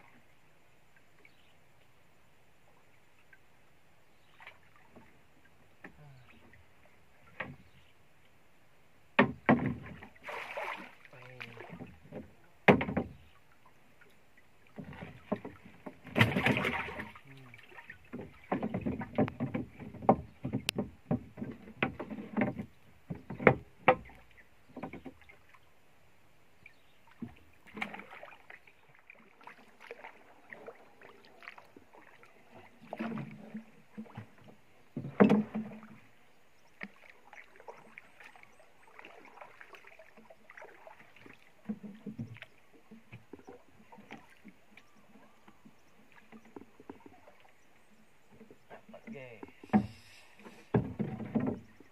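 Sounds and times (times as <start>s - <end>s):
water splashes: 4.1s - 8.4s, 9.1s - 25.8s, 26.6s - 51.9s
knocks and clatter on wooden boat: 4.2s - 8.4s, 9.1s - 25.6s, 26.8s - 51.9s.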